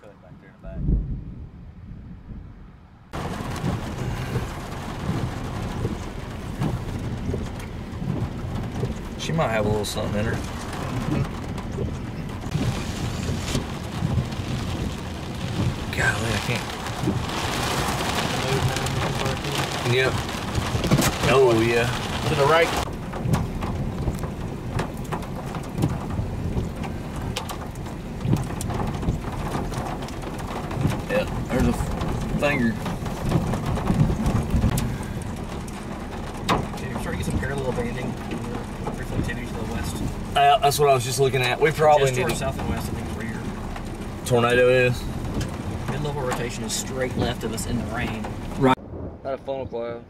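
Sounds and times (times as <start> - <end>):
steady low rumble: 0.0 - 50.0
wind gusting against microphone: 0.0 - 50.0
hailstones ticking: 3.1 - 48.8
rain falling: 3.1 - 50.0.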